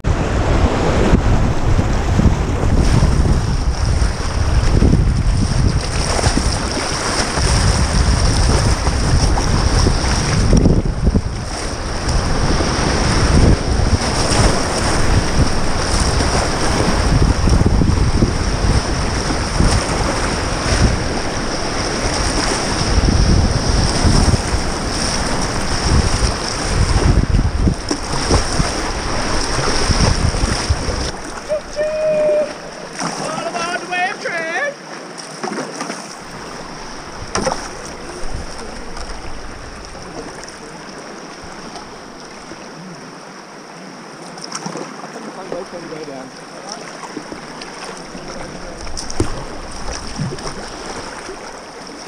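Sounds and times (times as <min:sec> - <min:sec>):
wind buffeting microphone: 0:00.0 - 0:33.0, 0:36.2 - 0:40.7, 0:47.2 - 0:51.5
whitewater rapids rushing: 0:00.1 - 0:52.0
paddle strokes splashing: 0:00.2 - 0:52.0.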